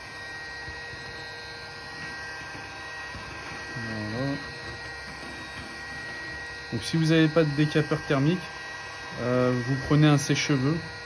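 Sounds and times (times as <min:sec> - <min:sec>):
heat gun blowing: 0:00.0 - 0:11.0.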